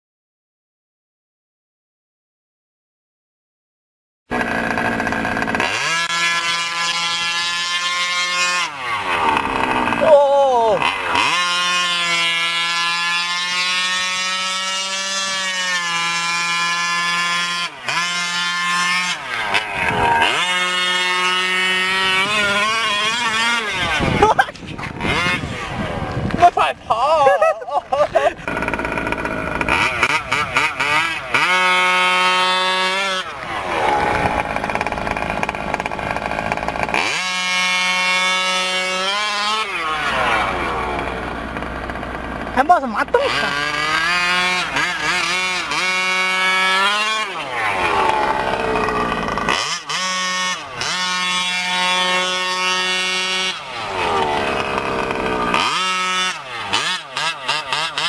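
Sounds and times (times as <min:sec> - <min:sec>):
two-stroke engine revving: 0:04.3 - 0:58.0.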